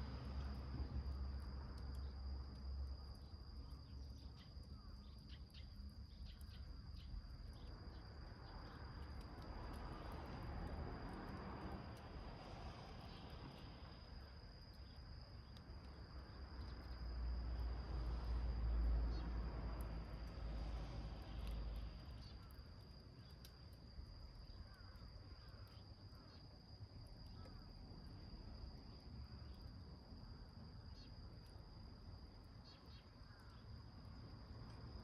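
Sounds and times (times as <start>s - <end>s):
high-pitched cricket trill: 0.0s - 35.0s
small wood fire crackling: 0.0s - 35.0s.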